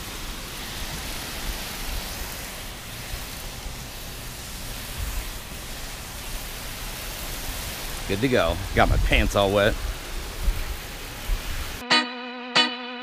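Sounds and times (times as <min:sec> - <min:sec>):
water spraying from hose: 0:00.0 - 0:11.8.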